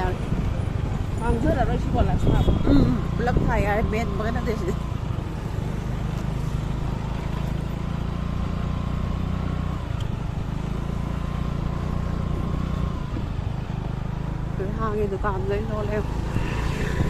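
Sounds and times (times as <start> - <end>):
vehicle engine humming with whine: 0.0 - 17.0.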